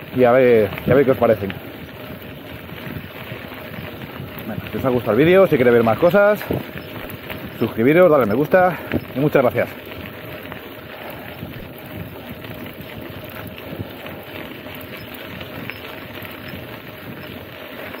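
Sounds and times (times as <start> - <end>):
mountain bike rolling: 0.0 - 18.0
wind noise on microphone: 0.0 - 18.0.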